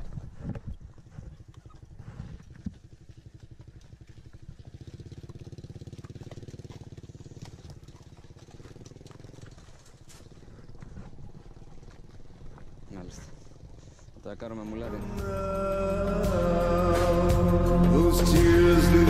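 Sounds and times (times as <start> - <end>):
small motorcycle engine passing: 0.0 - 19.0.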